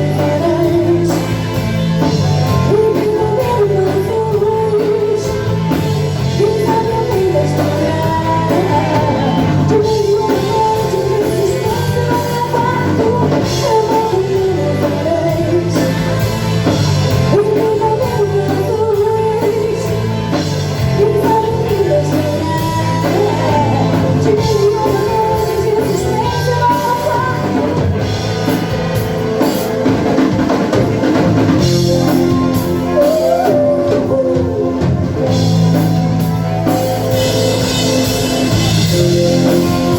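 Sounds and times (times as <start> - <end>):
person singing: 0.0 - 28.1, 31.4 - 39.9
rock band playing: 0.0 - 39.9.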